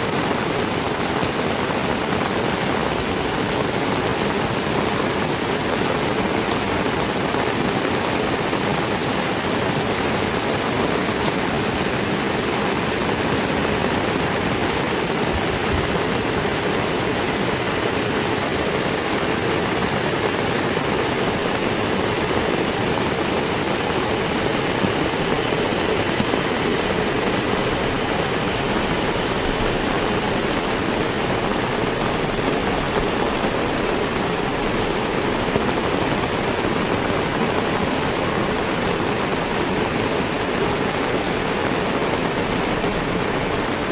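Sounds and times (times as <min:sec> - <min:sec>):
heavy rain hiss: 0:00.0 - 0:43.9.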